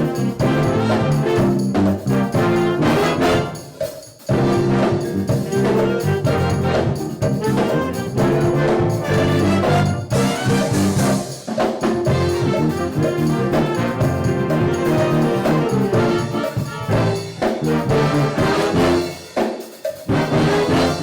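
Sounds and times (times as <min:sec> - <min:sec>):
brass band playing held chords: 0:00.0 - 0:21.0.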